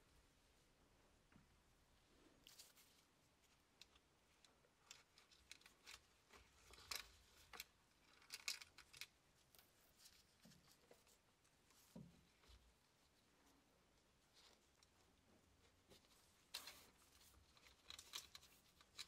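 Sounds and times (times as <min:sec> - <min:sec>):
small clicks and rustles: 0:02.2 - 0:19.0.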